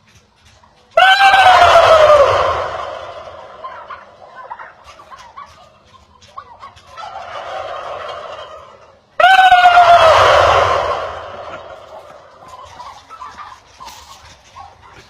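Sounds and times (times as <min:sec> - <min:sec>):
turkey gobbling: 0:00.1 - 0:15.0.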